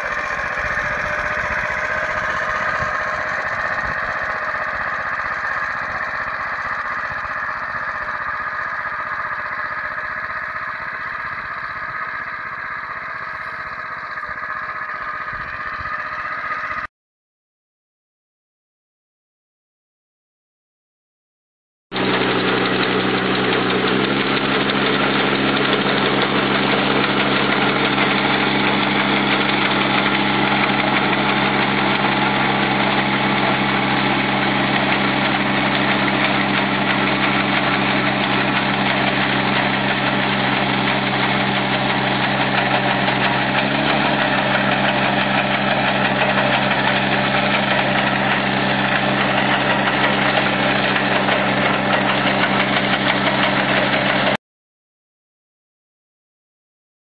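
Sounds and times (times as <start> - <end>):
tractor engine running: 0.0 - 16.9, 22.0 - 54.4.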